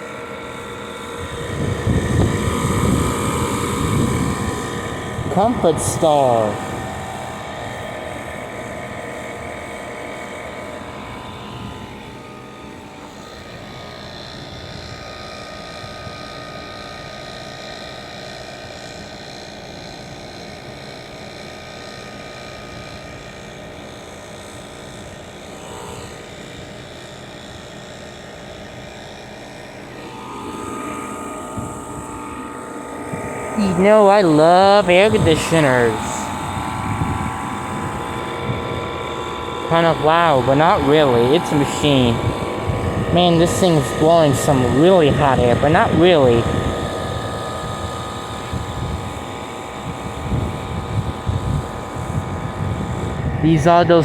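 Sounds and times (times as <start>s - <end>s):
air conditioner fan humming: 0.0s - 17.7s, 22.6s - 54.0s.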